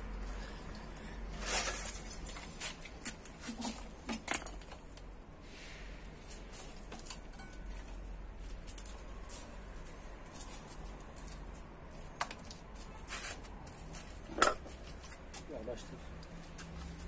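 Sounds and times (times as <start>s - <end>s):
small clicks and rustles: 0.2s - 5.1s, 6.2s - 15.5s.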